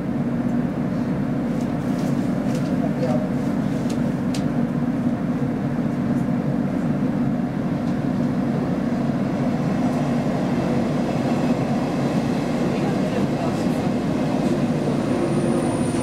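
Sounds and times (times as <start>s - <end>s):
train cabin low hum: 0.0s - 16.0s.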